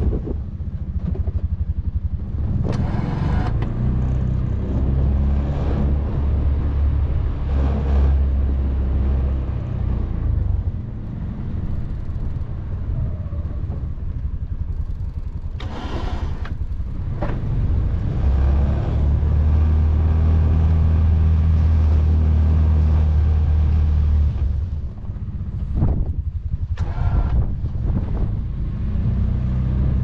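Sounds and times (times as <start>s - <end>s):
vehicle engine under load: 0.0s - 30.0s.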